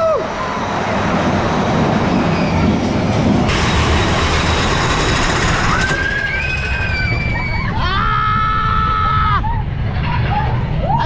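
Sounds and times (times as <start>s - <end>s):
rushing air: 0.0s - 9.9s
roller coaster wheels rumbling on rail: 0.0s - 11.0s.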